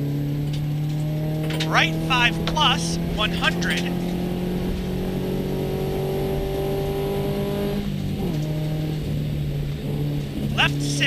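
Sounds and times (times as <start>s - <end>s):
gravel and road noise: 0.0s - 11.0s
rally car engine accelerating: 0.0s - 11.0s.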